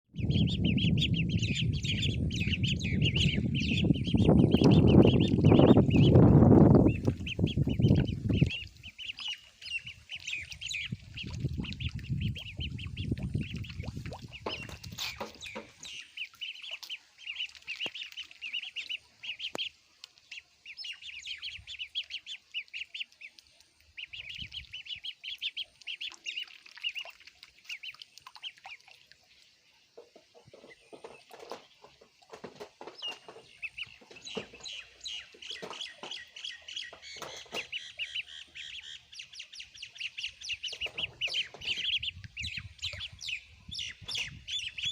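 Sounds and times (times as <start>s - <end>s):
ducklings peeping: 0.1s - 29.0s, 30.0s - 44.9s.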